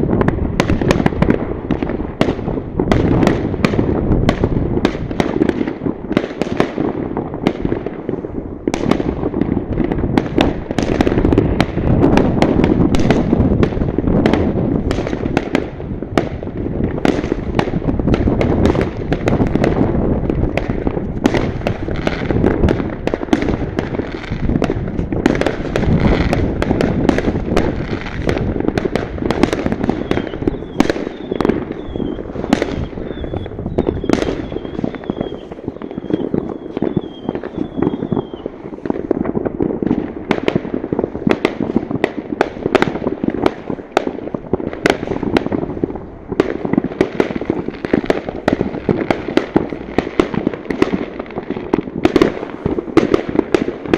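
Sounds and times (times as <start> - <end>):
fireworks rumble and crackle: 0.0 - 53.9
sharp fireworks bangs: 0.0 - 53.9.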